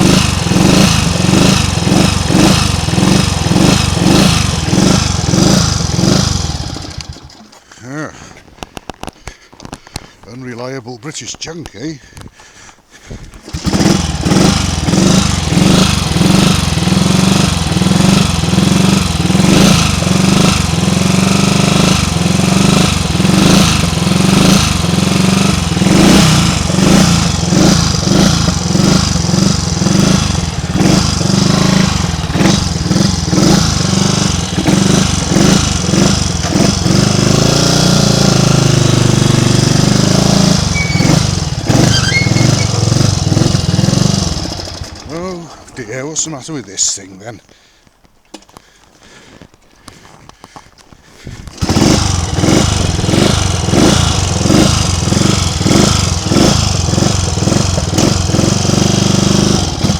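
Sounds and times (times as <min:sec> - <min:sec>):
motorcycle engine running unevenly: 0:00.0 - 0:10.2, 0:13.2 - 0:47.1, 0:51.2 - 0:59.9.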